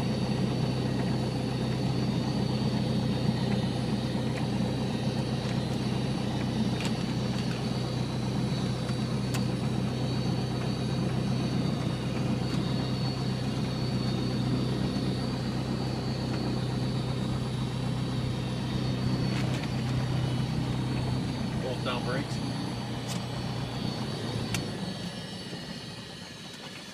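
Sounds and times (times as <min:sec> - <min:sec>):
light aircraft engine and propeller: 0:00.0 - 0:26.9.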